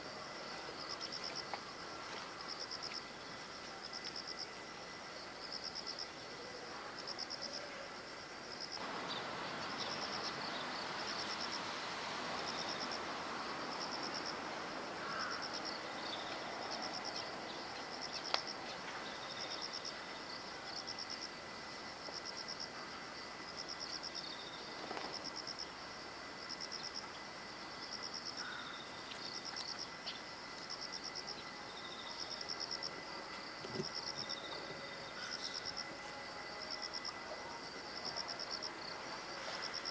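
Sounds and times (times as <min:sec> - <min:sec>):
background noise: 0:00.0 - 0:39.9
high insect hiss: 0:00.0 - 0:39.9
insect pulsed chirp: 0:00.0 - 0:39.9.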